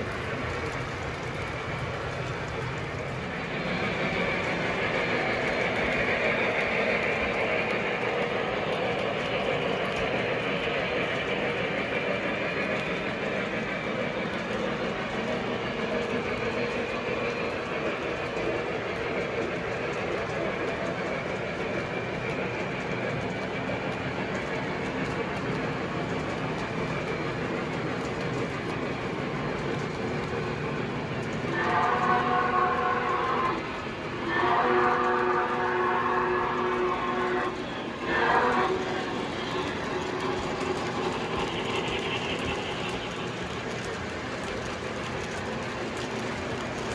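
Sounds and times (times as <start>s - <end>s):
model train motor hum: 0.0s - 46.9s
wheels rumbling on rails: 0.0s - 46.9s.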